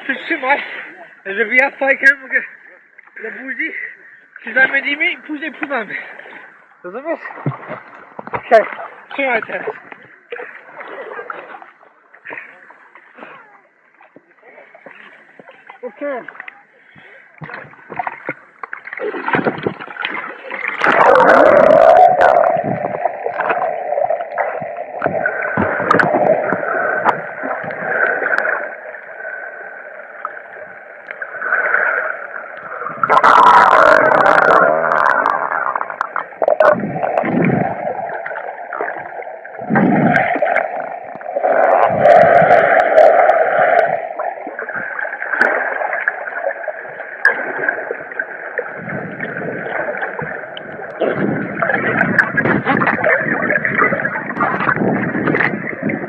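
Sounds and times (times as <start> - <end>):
muffled water sloshing: 4.1 - 13.2, 14.8 - 56.0.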